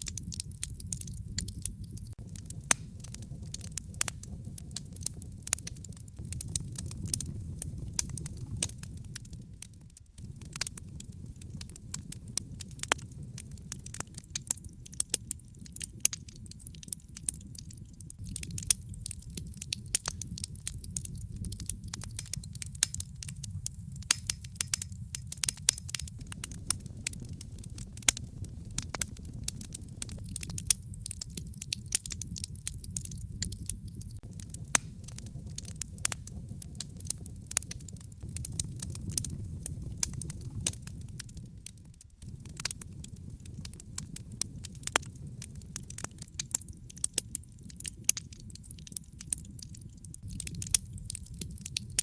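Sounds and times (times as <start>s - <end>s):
crackling fire: 0.0s - 52.0s
low rumble of flames: 0.0s - 52.0s.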